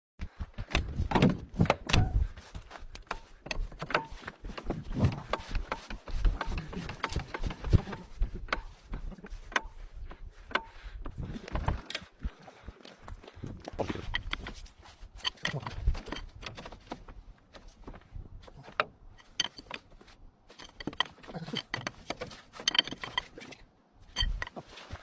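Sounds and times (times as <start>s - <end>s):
irregular knocks and clunks: 0.2s - 25.0s.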